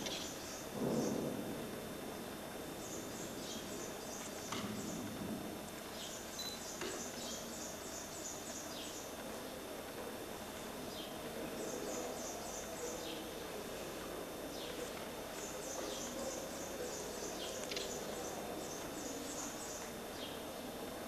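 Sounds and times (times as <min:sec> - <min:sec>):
background hiss and hum: 0:00.0 - 0:21.0.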